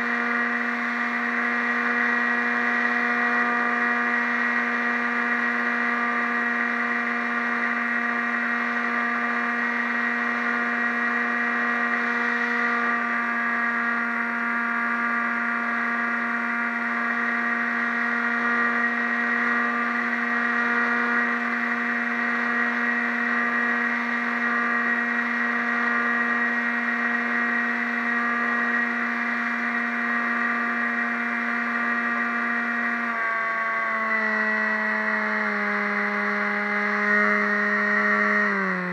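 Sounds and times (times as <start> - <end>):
model airplane motor and propeller: 0.0 - 38.9.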